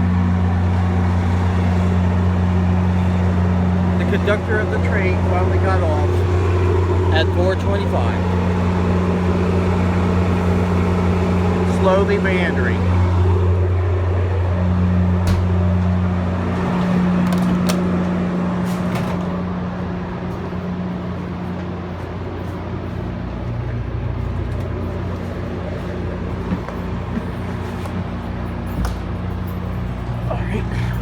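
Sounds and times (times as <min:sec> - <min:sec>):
train humming: 0:00.0 - 0:31.0.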